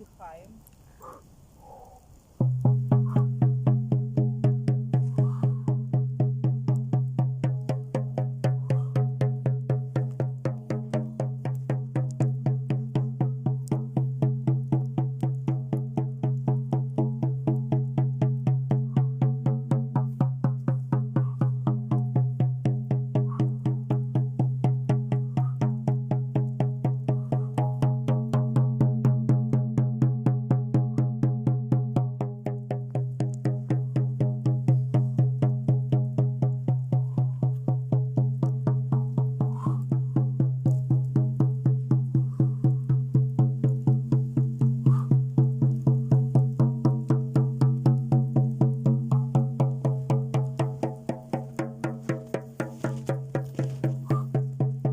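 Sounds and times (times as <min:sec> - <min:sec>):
drum beaten fast: 0:02.4 - 0:54.9.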